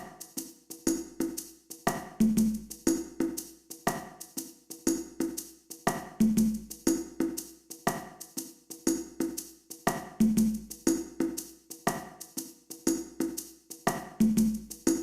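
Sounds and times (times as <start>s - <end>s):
drum machine hand percussion: 0.0s - 15.0s.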